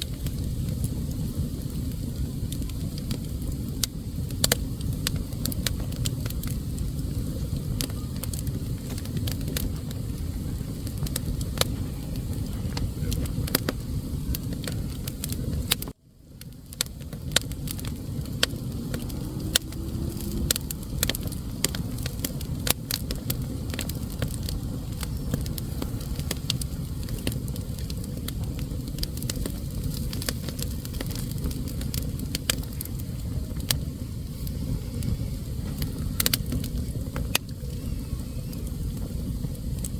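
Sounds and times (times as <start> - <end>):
fire crackles and pops: 0.0 - 39.9
fire flames rumbling: 0.0 - 39.9.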